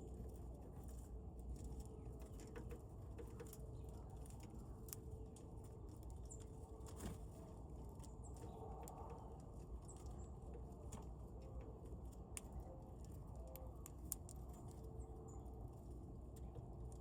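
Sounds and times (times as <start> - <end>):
birds pecking and cracking seeds: 0.0 - 17.0.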